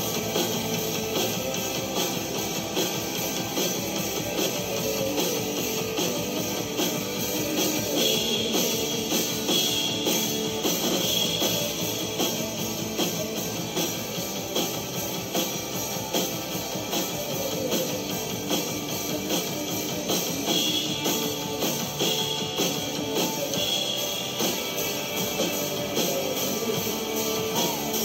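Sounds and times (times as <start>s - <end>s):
distorted electric guitars: 0.0s - 28.0s
drum kit beat: 0.0s - 28.0s.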